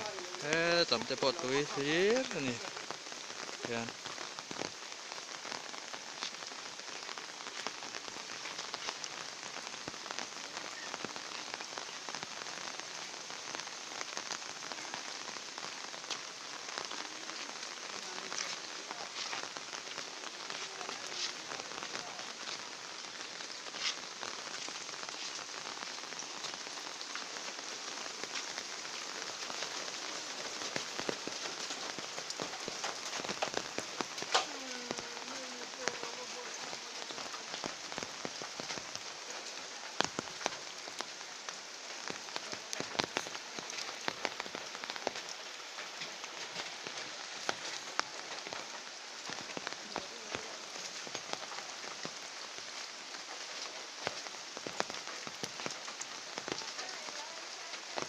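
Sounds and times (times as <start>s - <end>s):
rain on hard surface: 0.0s - 58.0s.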